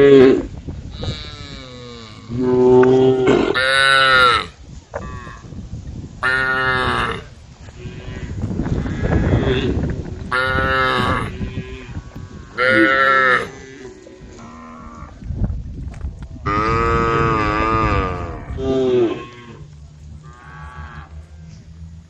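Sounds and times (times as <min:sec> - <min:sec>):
cows mooing: 0:00.0 - 0:05.4, 0:06.2 - 0:15.2, 0:16.4 - 0:22.0.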